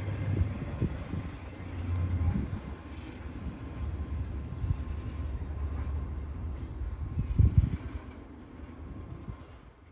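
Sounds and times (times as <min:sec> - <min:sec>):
train wheels rumbling on rails: 0:00.0 - 0:09.9.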